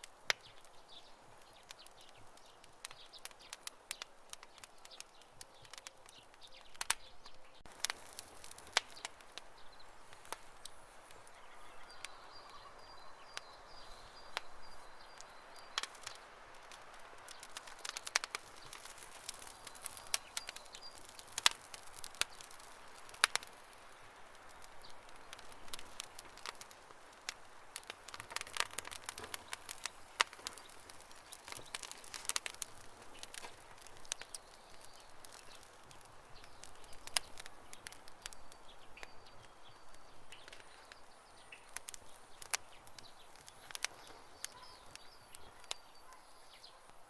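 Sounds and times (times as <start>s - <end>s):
campfire crackling and popping: 0.0s - 47.0s
hiss of burning: 0.0s - 47.0s.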